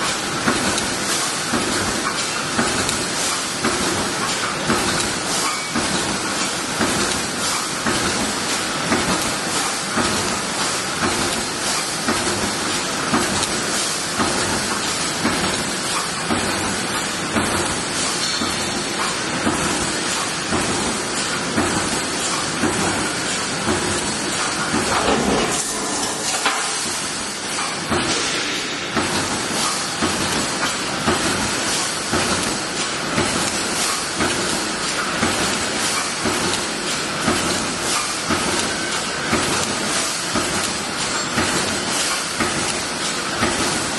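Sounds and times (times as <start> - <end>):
welding machine clattering and hissing: 0.0 - 43.9.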